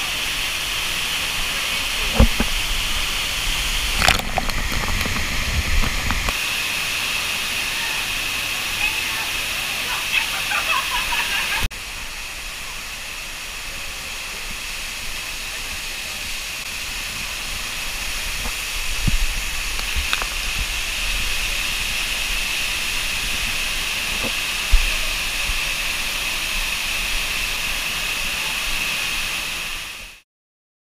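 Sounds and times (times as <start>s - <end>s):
hiss of water spray: 0.0s - 30.2s.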